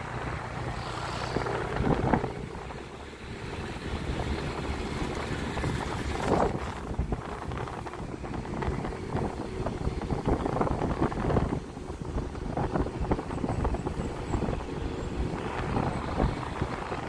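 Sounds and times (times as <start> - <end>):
moving vehicle rumble: 0.0 - 17.0
wind buffeting microphone: 0.0 - 17.0.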